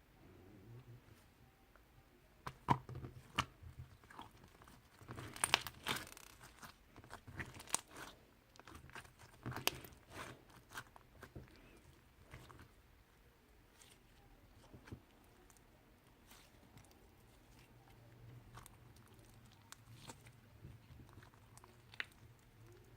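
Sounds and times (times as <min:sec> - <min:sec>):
crinkling and rustling: 0:02.5 - 0:12.8, 0:13.7 - 0:22.9.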